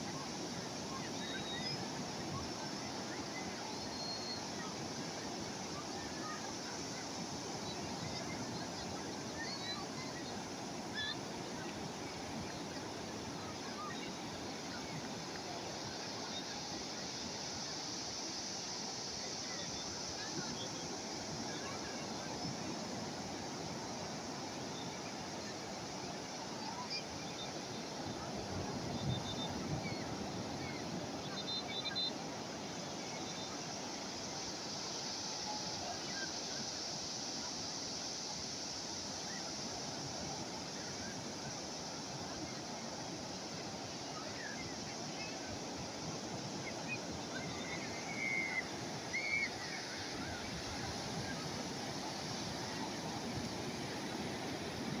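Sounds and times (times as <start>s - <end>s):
calm sea waves washing in: 0.0s - 55.0s.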